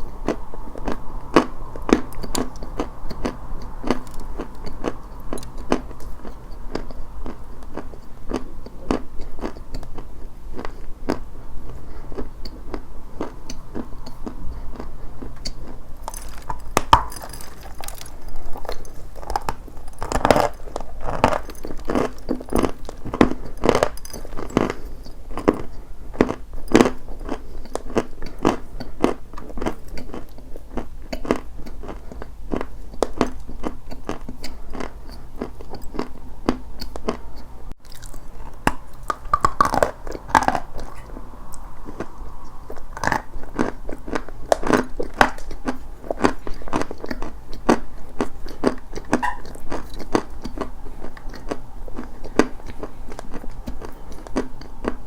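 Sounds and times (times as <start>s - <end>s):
chewing crunchy chalk: 0.0s - 55.0s.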